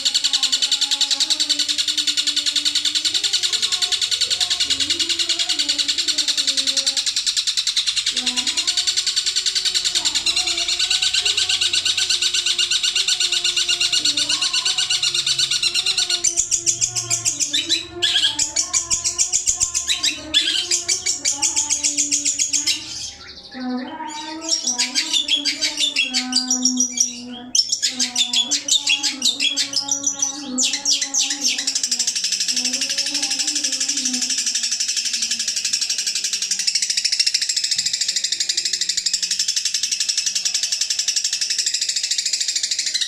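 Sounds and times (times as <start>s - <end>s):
songbird chattering high notes: 0.0s - 43.0s.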